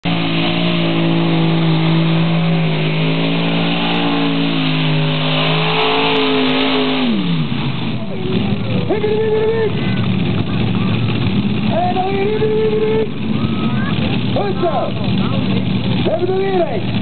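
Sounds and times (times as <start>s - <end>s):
tractor engine running at high revs: 0.0s - 17.0s.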